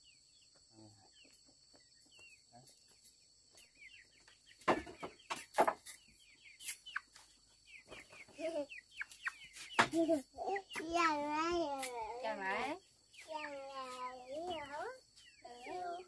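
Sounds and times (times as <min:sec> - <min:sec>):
chicks peeping: 0:00.0 - 0:16.0
hen clucking: 0:01.0 - 0:16.0.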